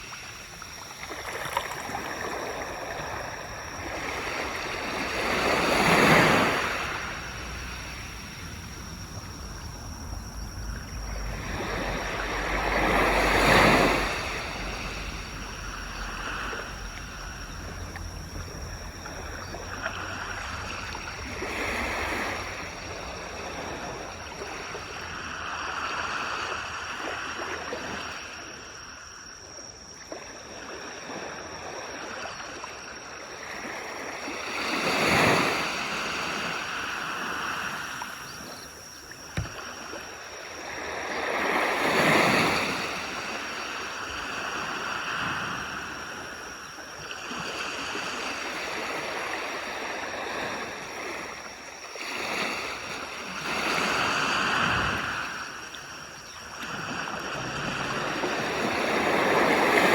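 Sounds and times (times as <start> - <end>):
ocean waves breaking on beach: 0.0 - 28.9, 33.4 - 59.9.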